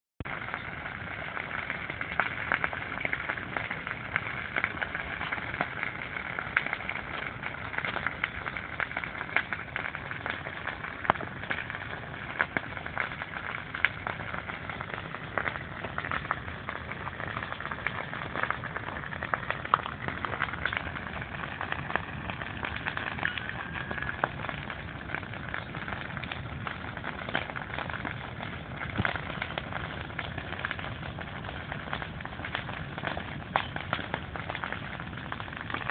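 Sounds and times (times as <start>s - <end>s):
campfire crackling and hissing: 0.2s - 35.9s.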